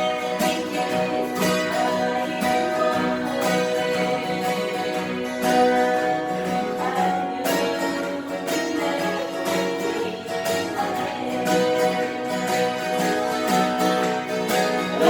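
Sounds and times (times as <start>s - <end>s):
acoustic guitars playing slow ballad: 0.0s - 15.0s.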